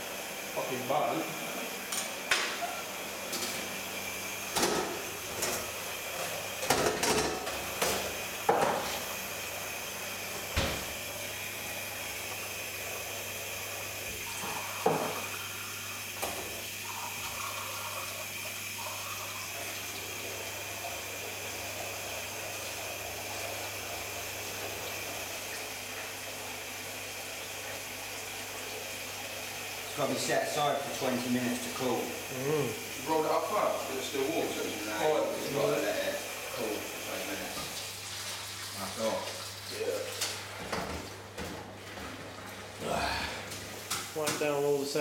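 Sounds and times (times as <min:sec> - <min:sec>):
tap water running into sink: 0:01.4 - 0:45.0.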